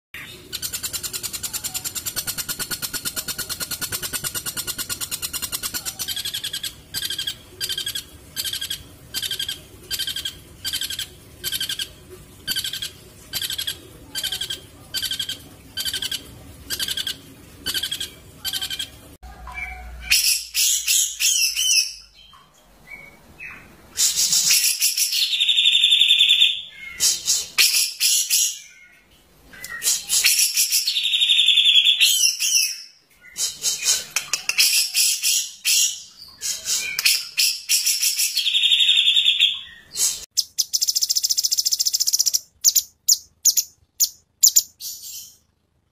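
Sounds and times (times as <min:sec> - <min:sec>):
high bird chirps: 0:00.2 - 0:11.9, 0:12.5 - 0:45.4.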